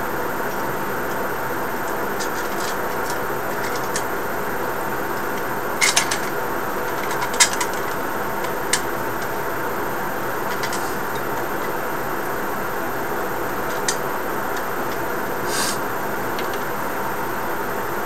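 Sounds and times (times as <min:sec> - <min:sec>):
machine whir with faint hum: 0:00.0 - 0:18.0.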